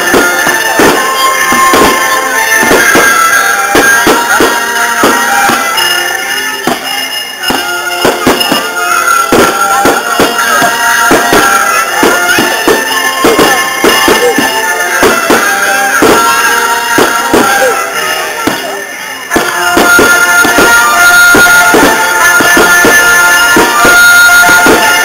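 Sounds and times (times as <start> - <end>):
fireworks banging and crackling: 0.0 - 25.0
music with long held notes: 0.0 - 25.0.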